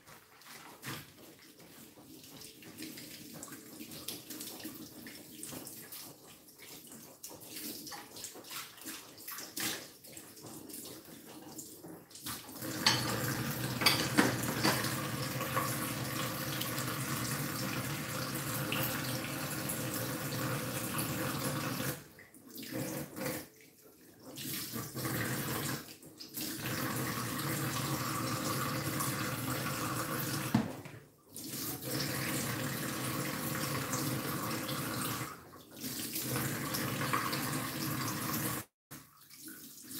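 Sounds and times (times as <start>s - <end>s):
dishes rinsing and washing: 0.0s - 39.9s
tap water running into sink: 0.8s - 39.9s.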